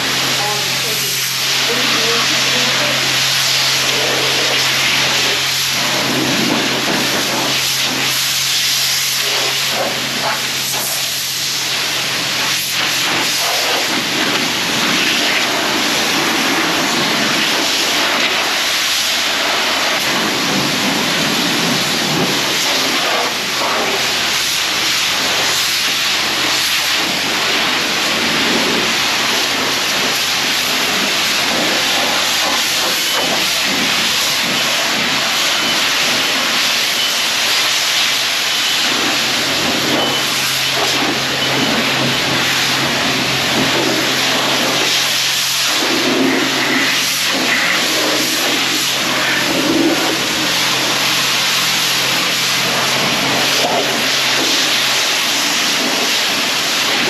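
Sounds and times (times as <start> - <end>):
high-pressure water spray hissing: 0.0 - 57.0.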